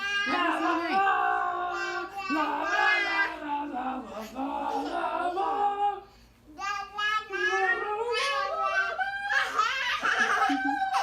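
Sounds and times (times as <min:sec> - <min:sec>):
child's sing-song voice: 0:00.0 - 0:11.0.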